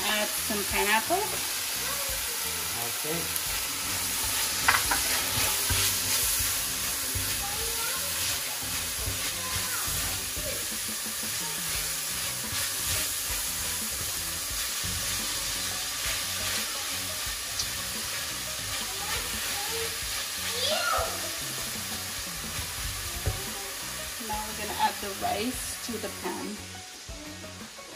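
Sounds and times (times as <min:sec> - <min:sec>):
vegetables sizzling in a pan: 0:00.0 - 0:27.9.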